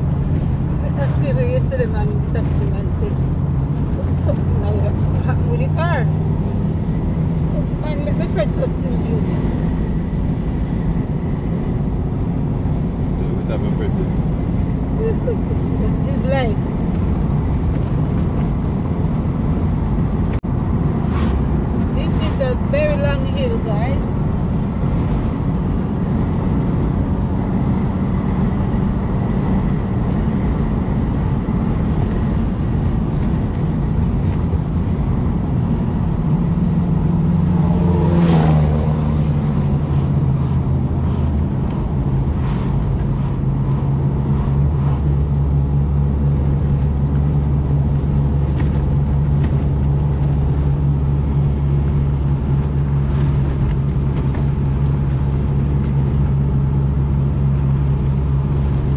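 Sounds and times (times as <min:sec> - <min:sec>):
car engine and tyre drone: 0:00.0 - 0:58.9.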